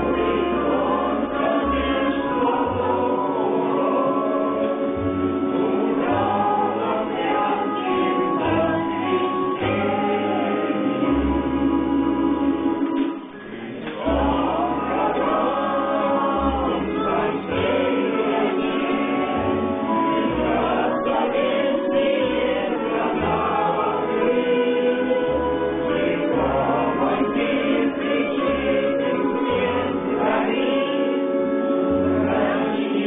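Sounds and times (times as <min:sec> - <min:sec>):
bass accompaniment: 0:00.0 - 0:33.0
folk choir singing: 0:00.0 - 0:33.0.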